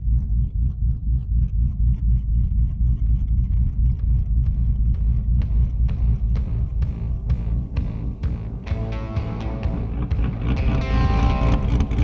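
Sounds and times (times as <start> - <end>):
engine idling with choppy lope: 0.0 - 12.0.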